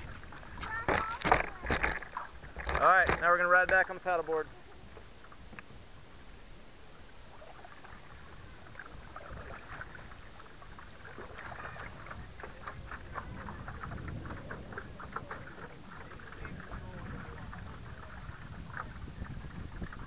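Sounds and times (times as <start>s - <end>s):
water splashing against board: 0.0s - 5.8s, 7.3s - 20.0s
paddle strokes: 0.0s - 20.0s.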